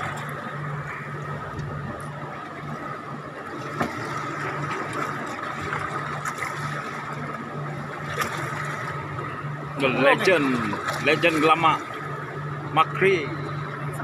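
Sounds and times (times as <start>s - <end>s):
boat machinery humming: 0.0s - 14.0s
water noise: 0.0s - 14.0s.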